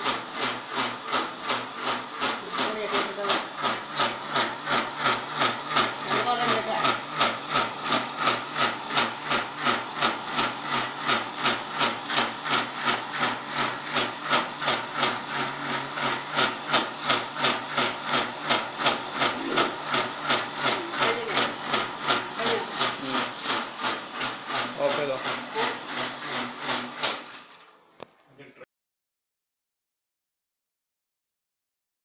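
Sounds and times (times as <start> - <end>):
rhythmic chuffing: 0.0 - 27.0
mixer grinder motor whining: 0.0 - 28.0.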